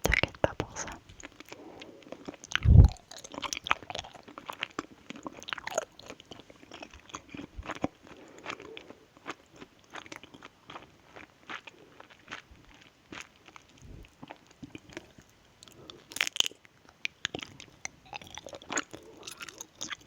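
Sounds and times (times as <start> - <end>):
person chewing sweets: 0.0 - 20.0.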